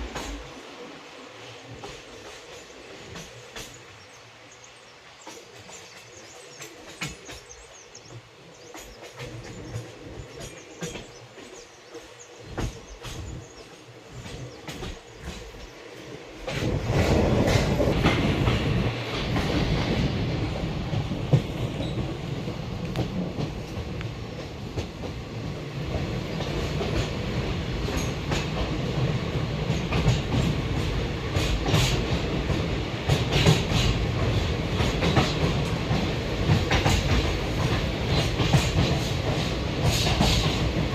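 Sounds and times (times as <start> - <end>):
train running on track: 0.0 - 40.9.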